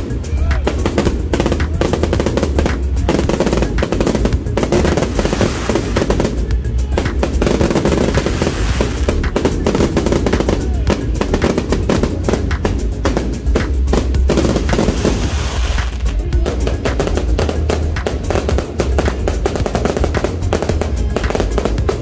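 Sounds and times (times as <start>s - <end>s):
fireworks crackling pops: 0.0s - 22.0s
music playing: 0.0s - 22.0s.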